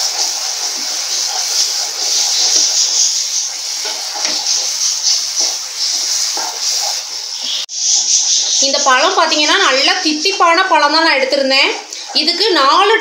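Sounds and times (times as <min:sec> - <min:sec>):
spatula scraping a pan: 0:00.0 - 0:12.7
paste sizzling in a pan: 0:00.0 - 0:13.0.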